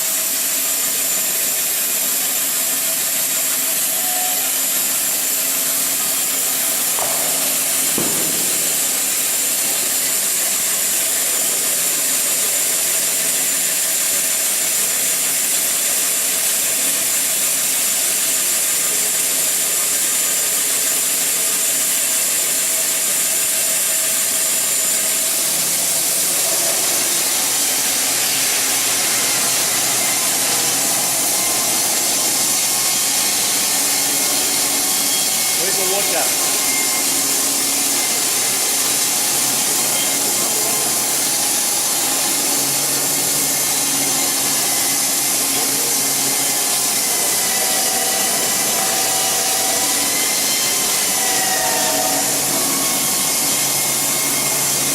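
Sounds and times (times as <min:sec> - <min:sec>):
bandsaw mill sawing log: 0:00.0 - 0:54.9.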